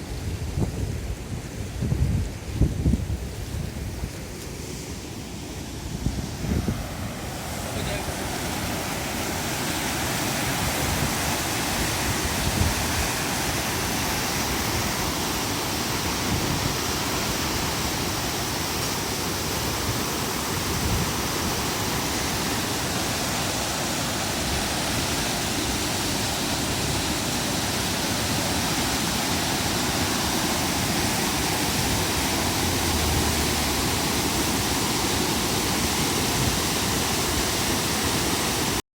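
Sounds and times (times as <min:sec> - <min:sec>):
flooded river roaring: 0:00.0 - 0:38.8.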